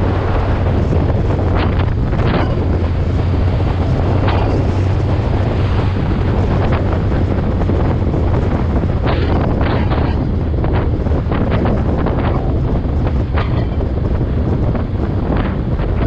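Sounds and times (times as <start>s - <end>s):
constant low drone: 0.0s - 16.0s
wind rushing over microphone: 0.0s - 16.0s.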